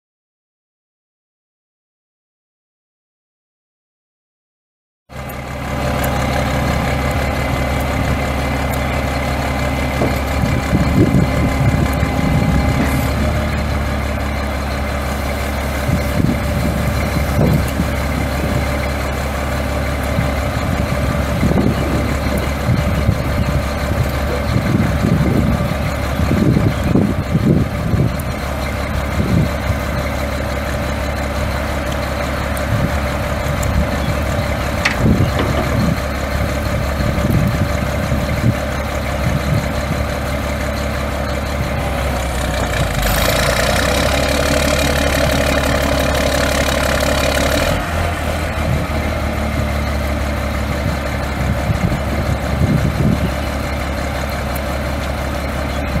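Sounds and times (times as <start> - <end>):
diesel truck idling: 5.1 - 56.0.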